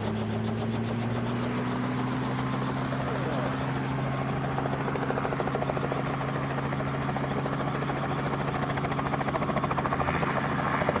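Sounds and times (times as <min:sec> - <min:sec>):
helicopter engine hum: 0:00.0 - 0:11.0
rotor blades beating: 0:00.0 - 0:11.0.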